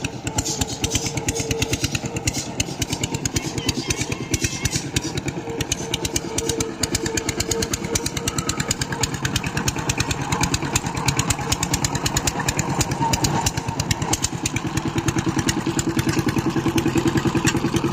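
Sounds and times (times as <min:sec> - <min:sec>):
diesel engine chugging: 0:00.0 - 0:17.9.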